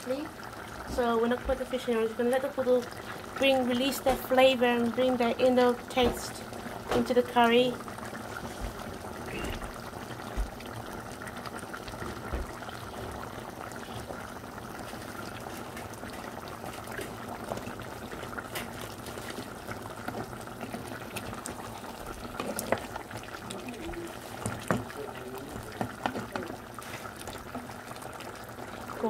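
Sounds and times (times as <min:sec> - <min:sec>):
curry bubbling in a pan: 0:00.0 - 0:29.0.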